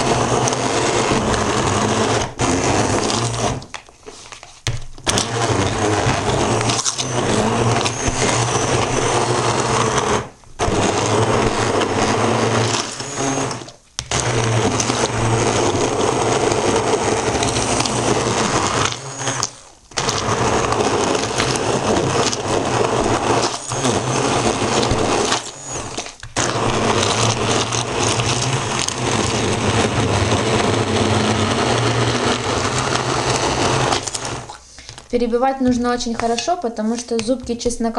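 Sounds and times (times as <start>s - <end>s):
stick blender motor running: 0.0s - 3.8s, 5.0s - 37.3s.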